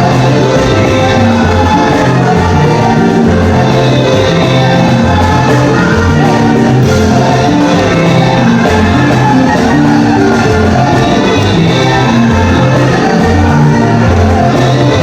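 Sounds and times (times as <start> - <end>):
loud music with bass: 0.0 - 15.0
person singing: 0.0 - 15.0.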